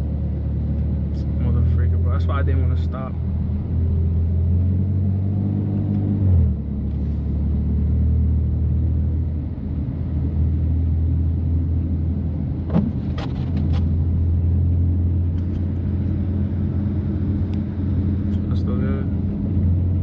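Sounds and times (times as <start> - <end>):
car engine at low revs: 0.0 - 20.0.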